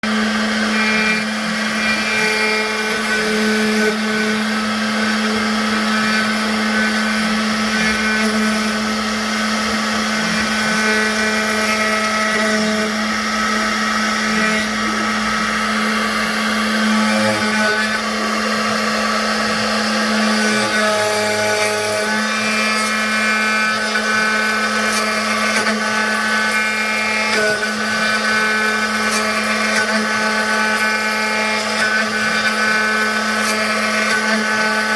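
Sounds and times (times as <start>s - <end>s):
router spindle whining: 0.0s - 34.9s.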